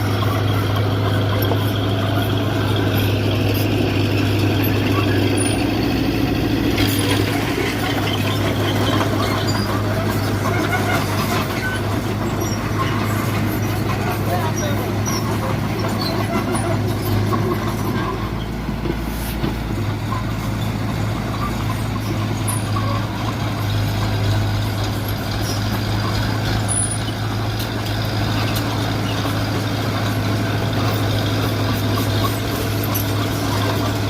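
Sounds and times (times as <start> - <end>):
heavy diesel engine droning: 0.0 - 34.0.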